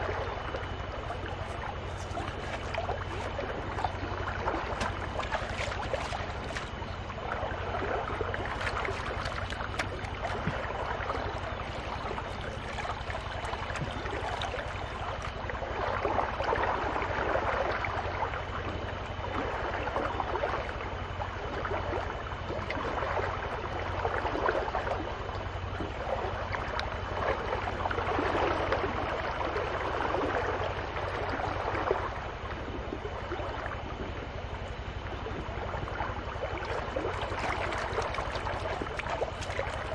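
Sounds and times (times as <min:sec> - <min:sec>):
steady low hum: 0:00.0 - 0:39.9
water sloshing in a pan: 0:00.0 - 0:39.9.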